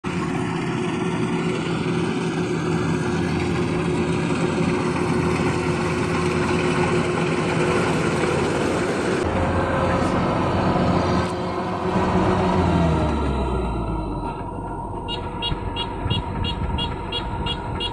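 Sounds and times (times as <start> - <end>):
diesel engine droning: 0.0 - 17.9
low hum: 0.2 - 17.9.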